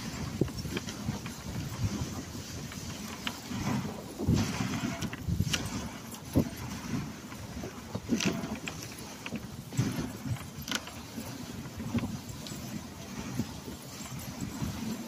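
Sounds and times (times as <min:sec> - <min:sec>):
sled frame knocking and rattling: 0:00.0 - 0:15.0
sled runners scraping on snow: 0:00.0 - 0:15.0.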